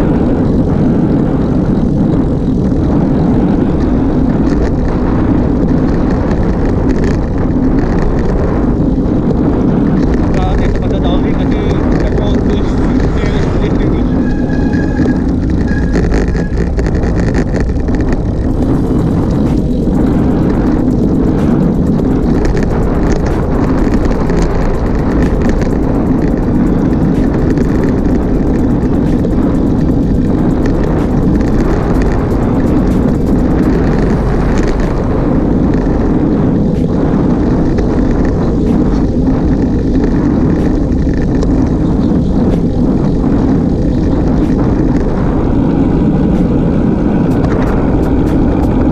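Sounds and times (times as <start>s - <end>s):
tyre and road noise: 0.0s - 48.9s
wind rushing over microphone: 0.0s - 48.9s.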